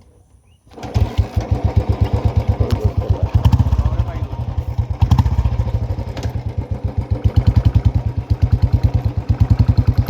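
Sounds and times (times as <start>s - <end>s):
motorcycle engine running: 0.7s - 10.0s.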